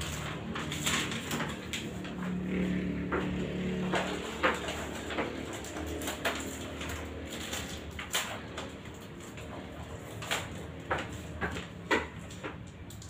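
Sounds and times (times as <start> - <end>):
paper sheets rustling: 0.0 - 2.7, 3.5 - 12.3
paper crackles: 0.0 - 13.0.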